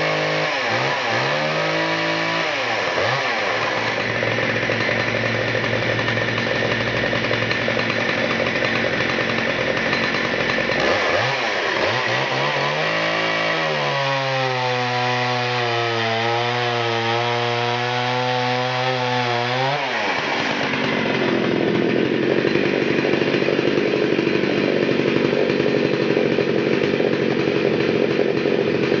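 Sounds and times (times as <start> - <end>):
chainsaw cutting log: 0.0 - 29.0.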